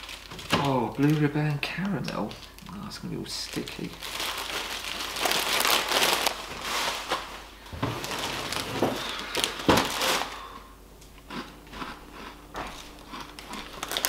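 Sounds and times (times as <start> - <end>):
plastic packets rustling: 0.0 - 10.6, 12.8 - 14.0.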